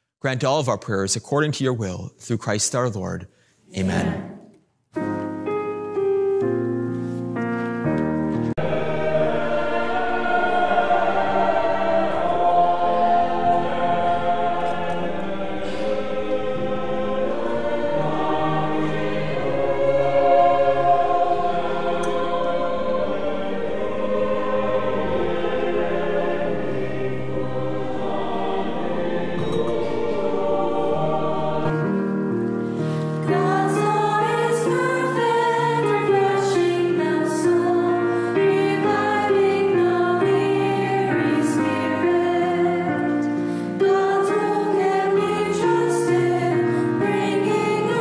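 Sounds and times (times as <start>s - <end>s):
church choir singing: 3.8s - 48.0s.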